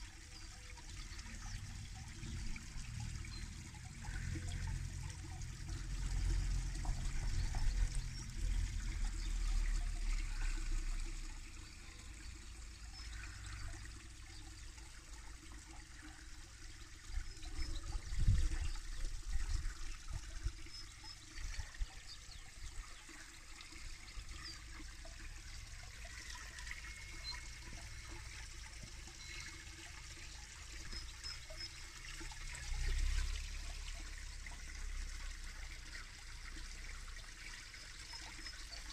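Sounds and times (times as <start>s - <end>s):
waterfall trickling into pond: 0.0s - 38.9s.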